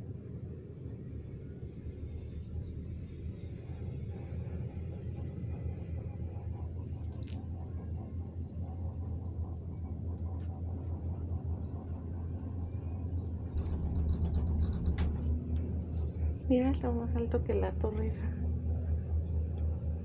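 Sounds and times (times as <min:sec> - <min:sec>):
cable car cabin rumble: 0:00.0 - 0:20.0.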